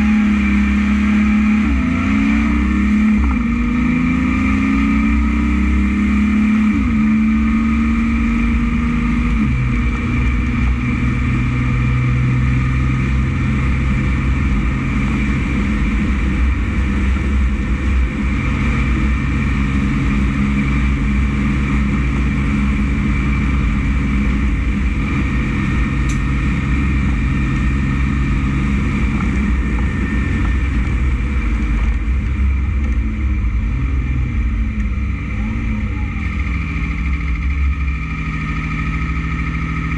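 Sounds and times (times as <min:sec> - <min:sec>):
diesel truck engine running: 0:00.0 - 0:05.3, 0:06.5 - 0:39.9.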